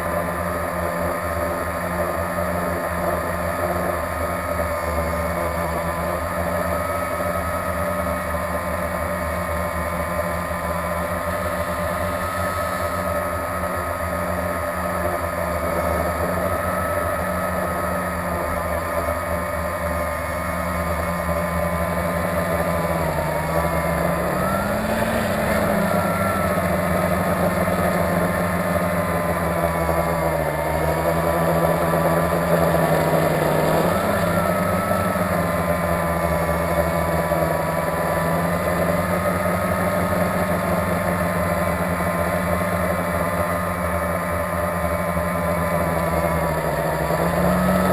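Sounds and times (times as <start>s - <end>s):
drone motors and propellers humming: 0.0s - 47.9s.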